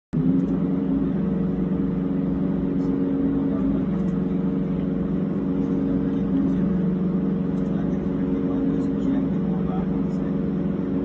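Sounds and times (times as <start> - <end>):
simulated aircraft engine drone: 0.1 - 11.0.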